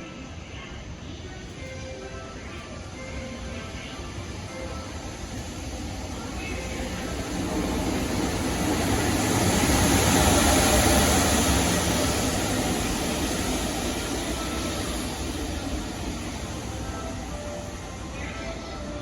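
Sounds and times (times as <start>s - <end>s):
train passing on rails: 0.0s - 19.0s.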